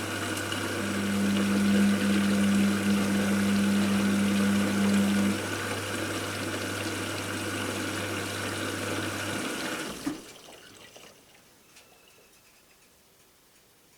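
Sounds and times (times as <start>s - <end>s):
washing machine pump humming: 0.0s - 11.5s.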